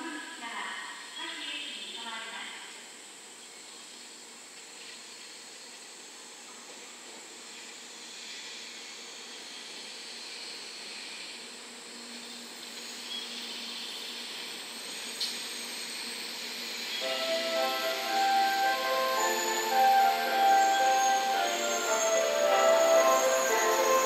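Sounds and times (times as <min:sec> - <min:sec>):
train moving with steady hiss: 0:00.0 - 0:24.0.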